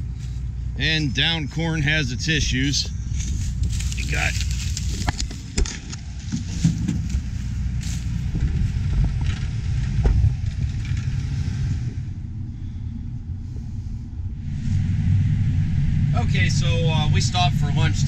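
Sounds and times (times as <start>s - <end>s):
combine harvester rumbling: 0.0s - 18.0s.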